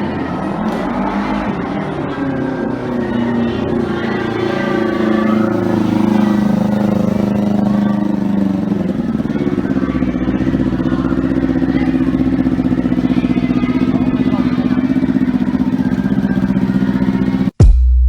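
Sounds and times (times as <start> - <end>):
motorcycle engine idling: 0.0 - 17.5.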